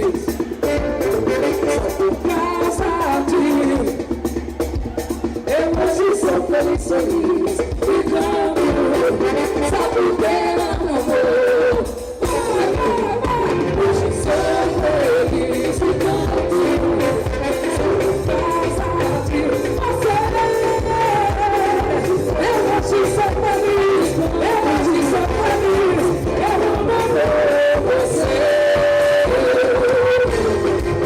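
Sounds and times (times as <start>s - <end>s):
amplified band music with singing: 0.0s - 31.0s.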